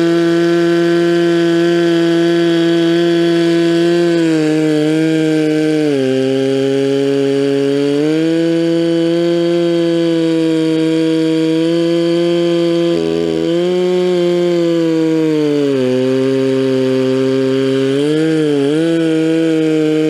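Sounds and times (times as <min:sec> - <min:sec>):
chainsaw ripping a log: 0:00.0 - 0:20.0.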